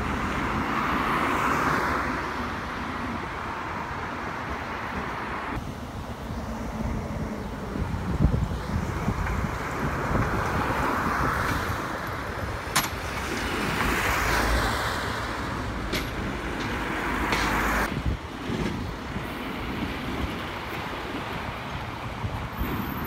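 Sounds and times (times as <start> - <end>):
another lorry engine: 0.0 - 23.0.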